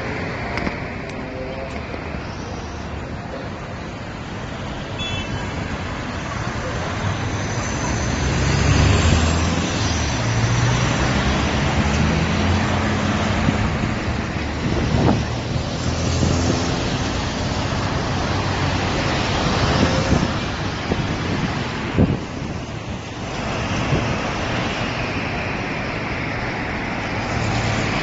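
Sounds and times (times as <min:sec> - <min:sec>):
traffic noise rushing: 0:00.0 - 0:28.0
vehicle engines passing: 0:00.0 - 0:28.0.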